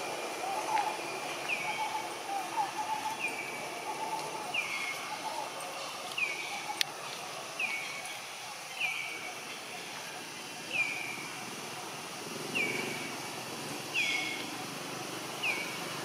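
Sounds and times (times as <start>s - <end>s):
bird calling: 0.0s - 13.2s, 13.8s - 16.0s.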